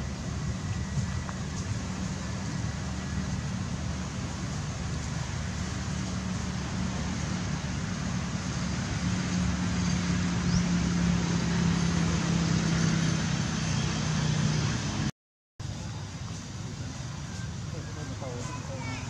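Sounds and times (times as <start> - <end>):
engine hum: 0.0 - 19.0
road background noise: 0.0 - 19.0.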